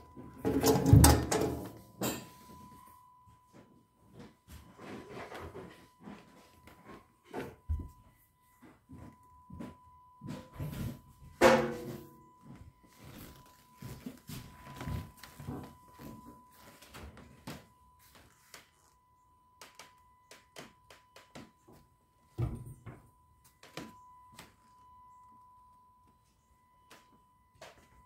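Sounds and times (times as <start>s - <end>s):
faint steady high tone: 0.0s - 28.0s.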